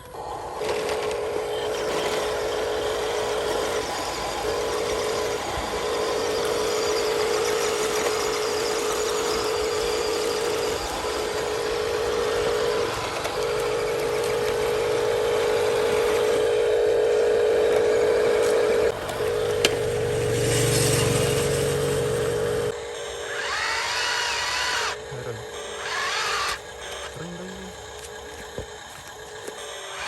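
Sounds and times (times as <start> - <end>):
electric toy motor whining: 0.0 - 30.0.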